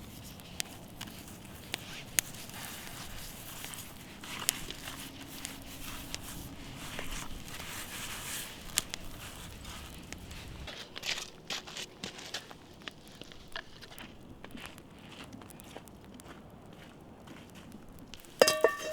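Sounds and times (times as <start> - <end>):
campfire crackling: 0.0 - 18.9.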